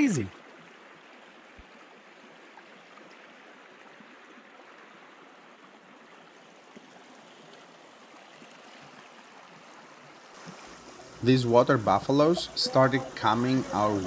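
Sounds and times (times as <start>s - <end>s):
flowing river water: 0.0s - 14.0s.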